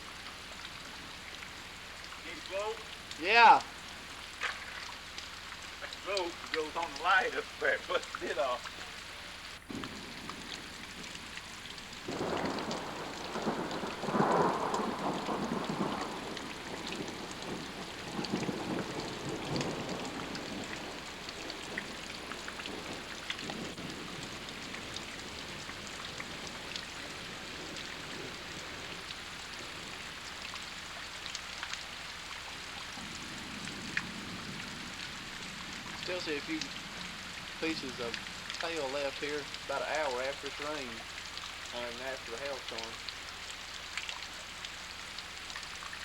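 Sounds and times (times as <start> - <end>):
rain pattering and dripping: 0.0 - 46.0.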